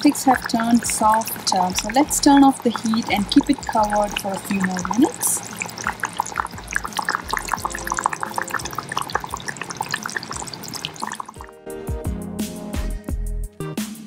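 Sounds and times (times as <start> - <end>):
curry bubbling in a clay pot: 0.0 - 11.5
background music: 0.0 - 14.0.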